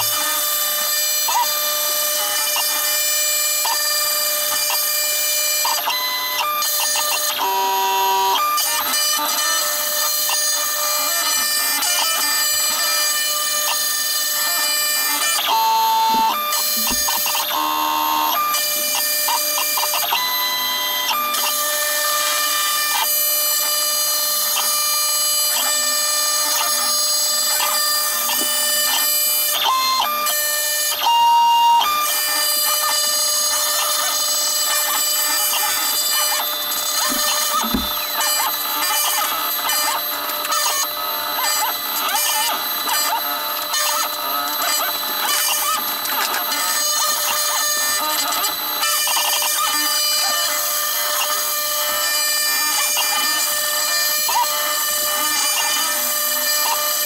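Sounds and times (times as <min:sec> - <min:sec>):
high-pitched machine whine: 0:00.0 - 0:57.0.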